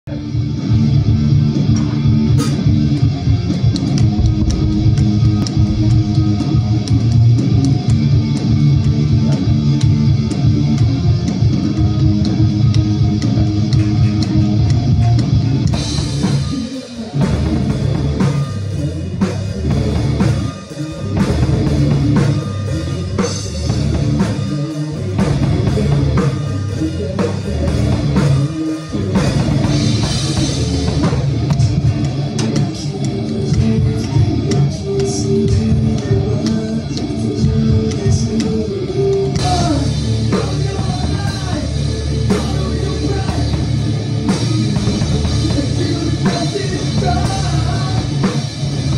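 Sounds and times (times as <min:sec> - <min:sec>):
rock song with drums and guitar: 0:00.1 - 0:48.9.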